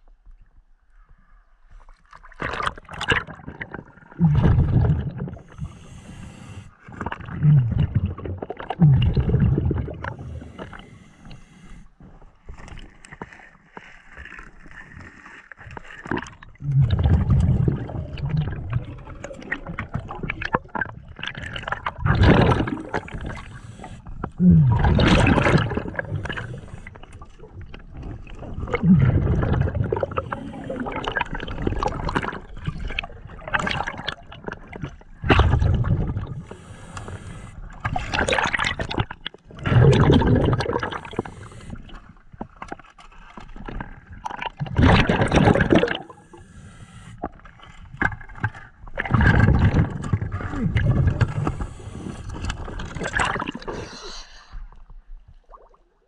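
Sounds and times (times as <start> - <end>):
underwater bubbles gurgling: 2.2 - 13.1, 15.6 - 56.0.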